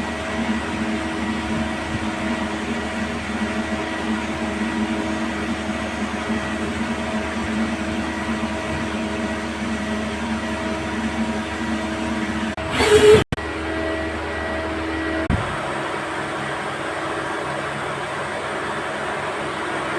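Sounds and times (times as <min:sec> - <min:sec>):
machinery humming: 0:00.0 - 0:19.9.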